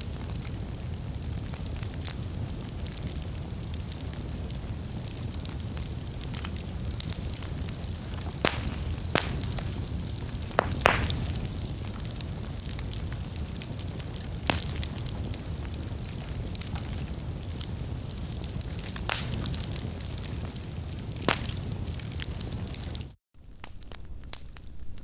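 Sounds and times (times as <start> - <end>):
fire roaring and crackling: 0.0 - 25.0
loud fire pops: 0.2 - 25.0.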